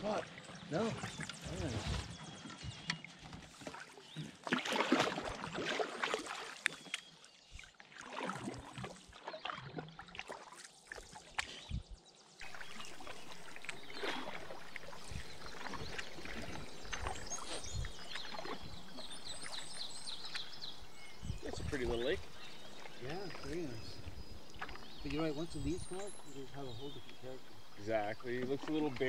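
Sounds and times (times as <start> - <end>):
canoe paddle splashing water: 0.0 - 29.0.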